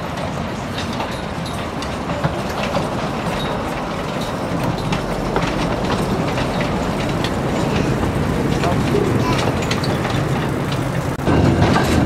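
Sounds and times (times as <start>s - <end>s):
steam train wheels rumbling: 0.0s - 12.0s
wheels clacking over track: 0.0s - 12.0s.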